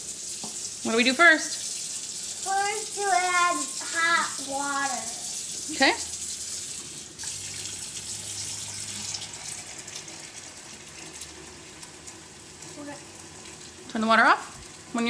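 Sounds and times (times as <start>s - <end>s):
faucet water filling a pitcher: 0.0s - 15.0s.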